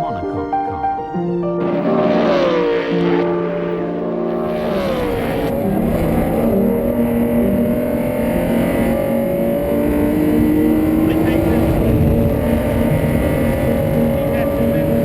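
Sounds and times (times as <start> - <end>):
racing car engine revving: 1.6 - 15.0.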